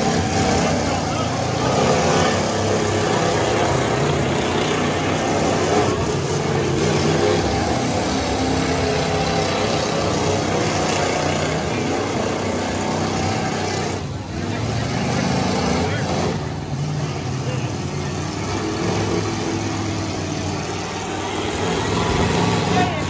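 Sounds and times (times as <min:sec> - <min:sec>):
truck engines running loudly: 0:00.0 - 0:23.0.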